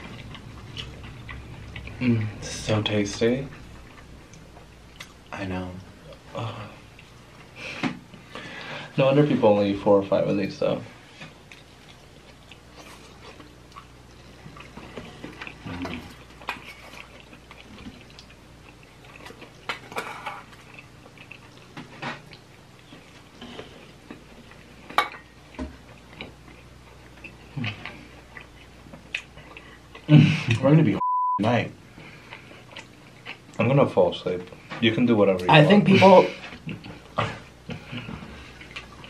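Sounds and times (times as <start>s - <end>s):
chewing: 0.0s - 5.4s, 6.0s - 8.4s, 11.1s - 30.6s, 31.9s - 35.5s, 36.3s - 39.0s.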